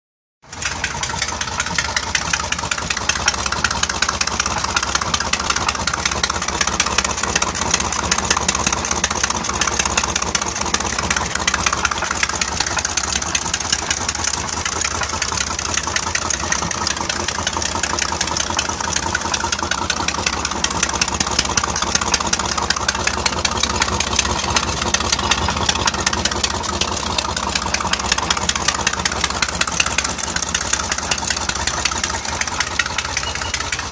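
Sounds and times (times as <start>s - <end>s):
boat engine idling with ticking knock: 0.4s - 33.9s.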